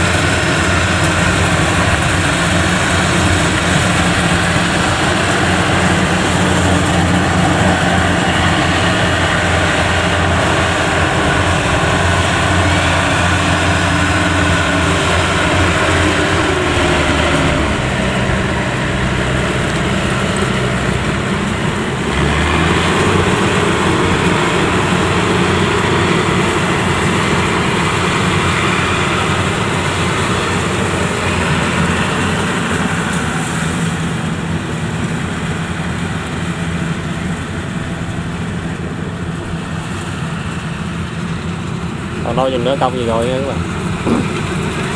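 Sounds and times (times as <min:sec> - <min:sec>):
combine harvester diesel engine: 0:00.0 - 0:44.9.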